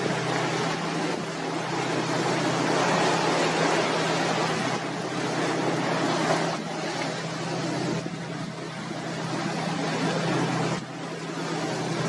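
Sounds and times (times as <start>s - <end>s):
boat engine humming: 0.0s - 12.0s
sea water rushing: 0.0s - 12.0s.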